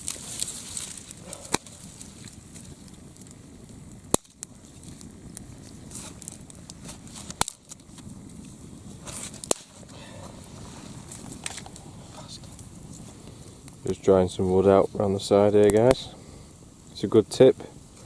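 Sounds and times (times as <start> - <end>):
campfire crackling and popping: 0.0 - 18.0
low steady hiss: 0.0 - 18.0.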